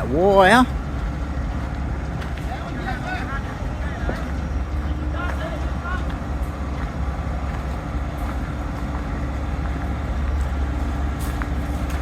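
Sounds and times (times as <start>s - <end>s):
large vehicle engine idling: 0.0s - 12.0s.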